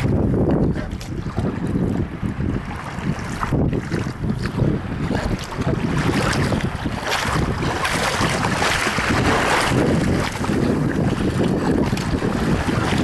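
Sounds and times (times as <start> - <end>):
water rushing along kayak bow: 0.0 - 13.0
wind buffeting microphone: 0.0 - 13.0.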